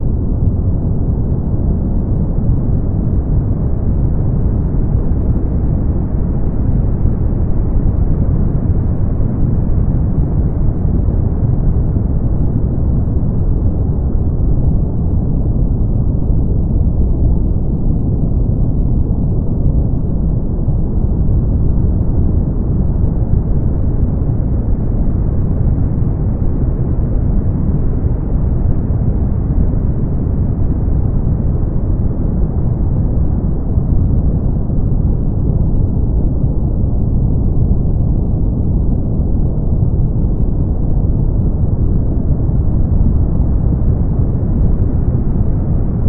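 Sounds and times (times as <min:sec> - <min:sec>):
brown noise: 0:00.0 - 0:46.0.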